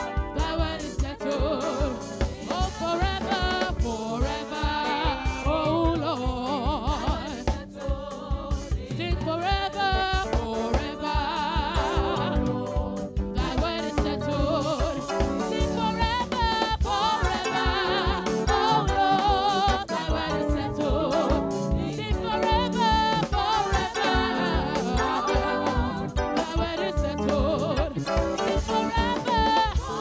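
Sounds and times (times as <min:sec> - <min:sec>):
live instrumental backing: 0:00.0 - 0:30.0
women singing gospel: 0:00.0 - 0:30.0.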